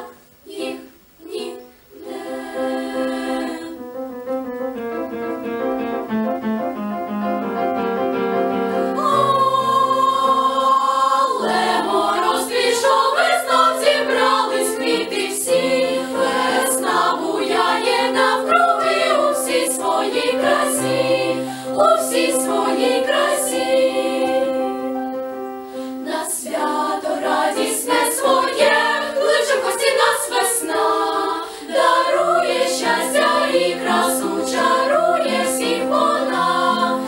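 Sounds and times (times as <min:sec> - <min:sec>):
choir singing: 0:00.0 - 0:04.4, 0:08.5 - 0:25.2, 0:25.8 - 0:37.0
piano accompaniment: 0:02.2 - 0:37.0.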